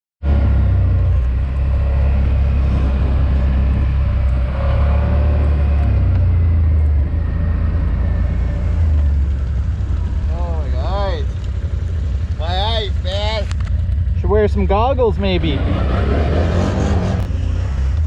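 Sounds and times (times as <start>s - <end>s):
engine rumbling: 0.2s - 18.0s.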